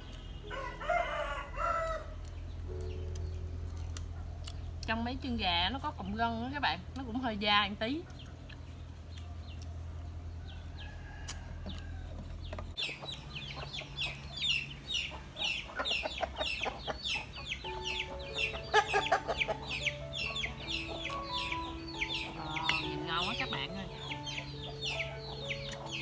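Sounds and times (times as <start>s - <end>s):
chickens clucking and cheeping: 0.0s - 26.0s.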